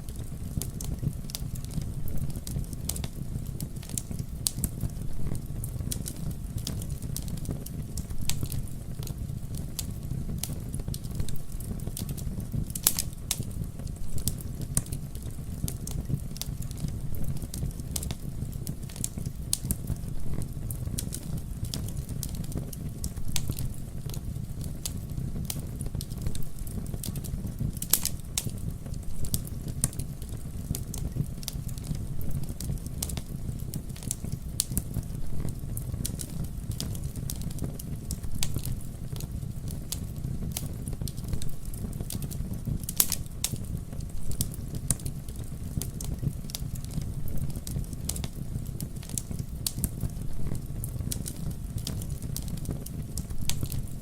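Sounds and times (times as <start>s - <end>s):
campfire crackling and popping: 0.0s - 54.0s
loud fire snaps: 0.0s - 54.0s.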